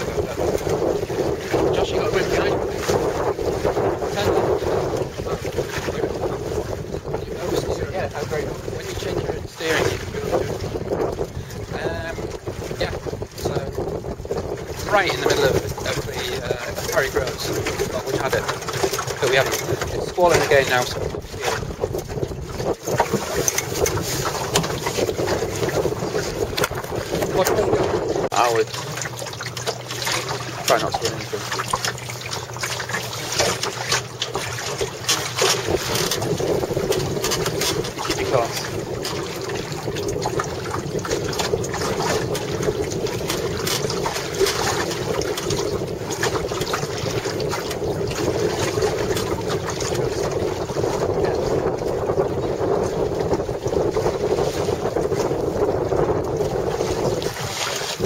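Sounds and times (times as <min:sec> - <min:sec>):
small knocks and splashes: 0:00.0 - 0:52.2, 0:56.2 - 0:58.0
water rushing along a hull: 0:00.0 - 0:58.0
wind buffeting microphone: 0:00.0 - 0:58.0.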